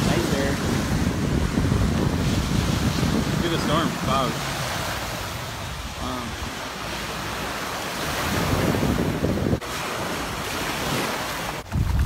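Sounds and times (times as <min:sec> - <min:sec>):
wind rumbling on microphone: 0:00.0 - 0:12.0
small waves on pebble beach: 0:02.2 - 0:12.0.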